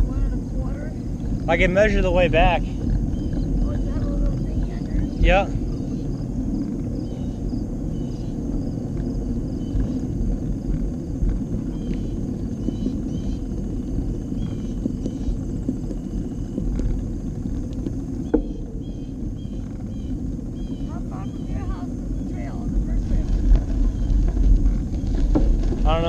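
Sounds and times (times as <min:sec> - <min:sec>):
bicycle tyres rolling: 0:00.0 - 0:26.0
wind rumble on microphone: 0:00.0 - 0:26.0.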